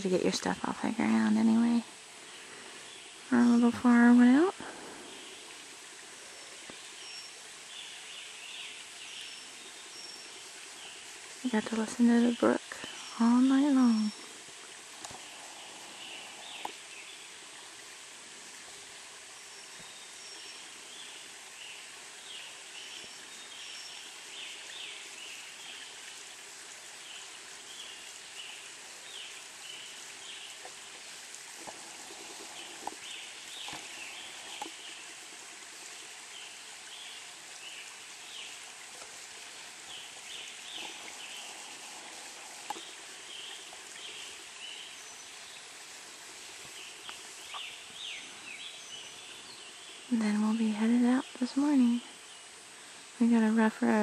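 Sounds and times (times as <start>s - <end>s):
brook babbling: 0.0s - 54.0s.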